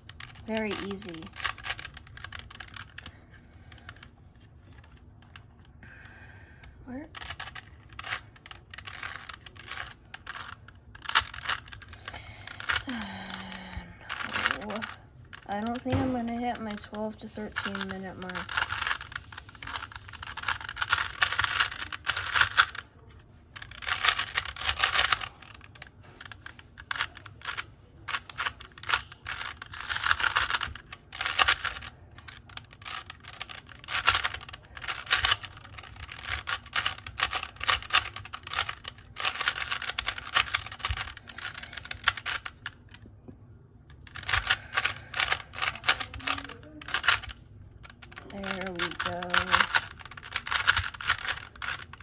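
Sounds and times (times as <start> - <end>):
puzzle cube clicking as turned: 0.0 - 5.7, 6.6 - 43.0, 43.9 - 52.0.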